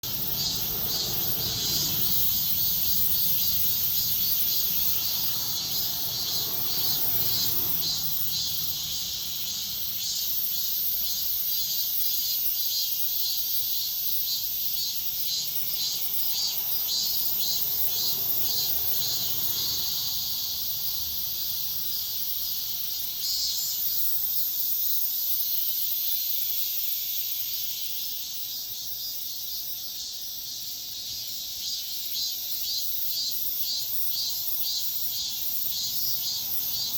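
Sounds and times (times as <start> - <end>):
cicadas buzzing: 0.0 - 36.9.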